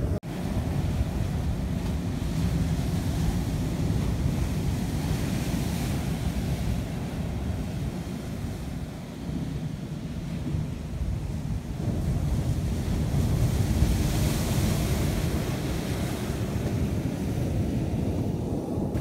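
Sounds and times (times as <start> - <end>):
sea surf on rocky shore: 0.0 - 19.0
wind buffeting microphone: 0.0 - 19.0.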